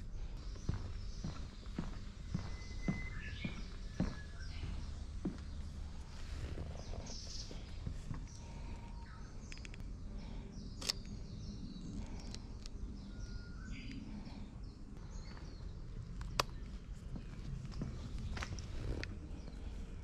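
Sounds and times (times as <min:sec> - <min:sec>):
birds chirping: 0:00.0 - 0:20.0
low outdoor rumble: 0:00.0 - 0:20.0.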